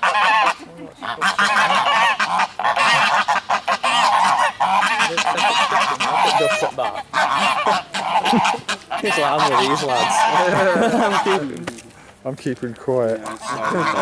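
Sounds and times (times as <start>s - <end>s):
geese honking: 0.0s - 12.3s, 13.1s - 14.0s.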